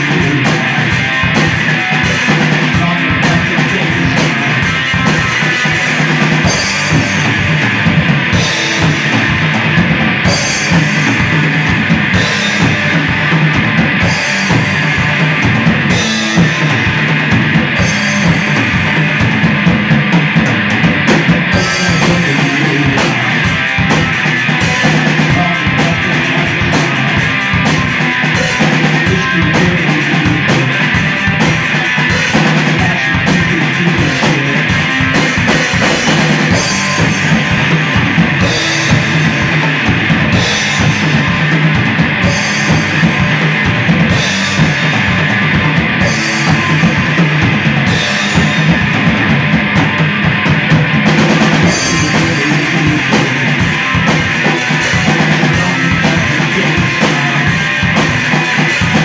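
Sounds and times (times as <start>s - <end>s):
bass guitar: 0.0s - 59.0s
distorted electric guitar: 0.0s - 59.0s
drum kit with crashing cymbals: 0.0s - 59.0s.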